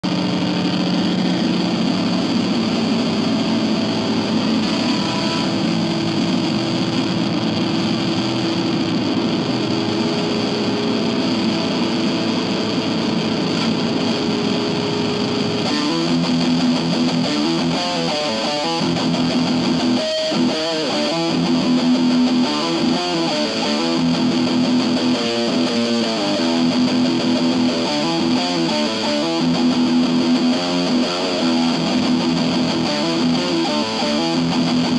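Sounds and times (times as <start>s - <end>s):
electric guitar notes: 0.0s - 34.9s.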